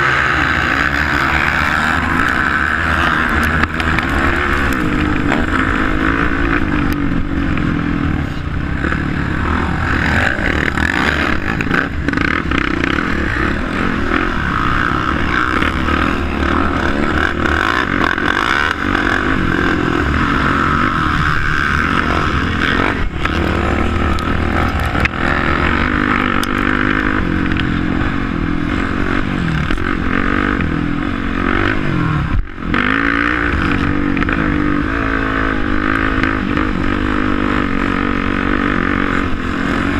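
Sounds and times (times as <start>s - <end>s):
quad bike engines revving: 0.0s - 39.9s.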